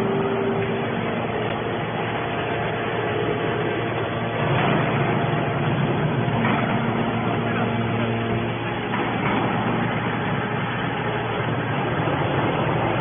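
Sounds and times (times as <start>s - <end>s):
hydraulic machine humming: 0.0s - 13.0s.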